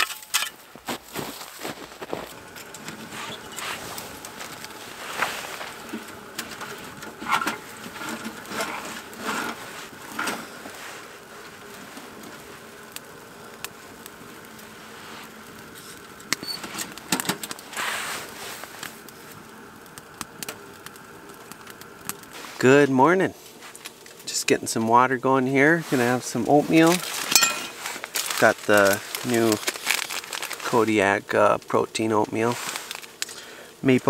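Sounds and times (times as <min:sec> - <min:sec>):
twigs clicking and rustling: 0:00.0 - 0:22.6, 0:26.0 - 0:33.6.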